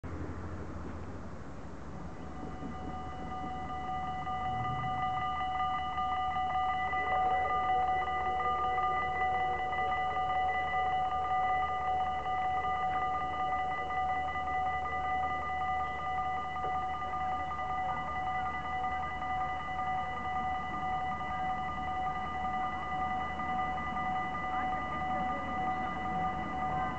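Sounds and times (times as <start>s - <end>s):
level crossing warning bell ringing: 1.9s - 26.9s.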